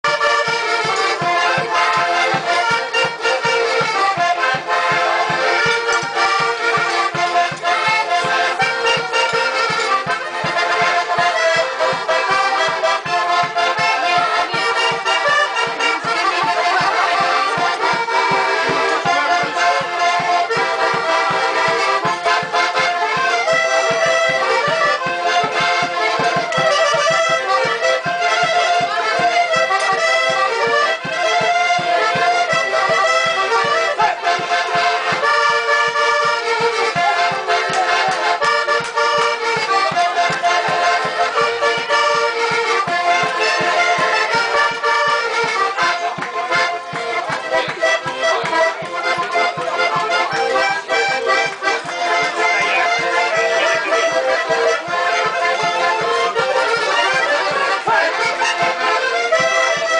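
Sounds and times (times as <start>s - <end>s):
button accordions playing dance tune: 0.0s - 59.9s.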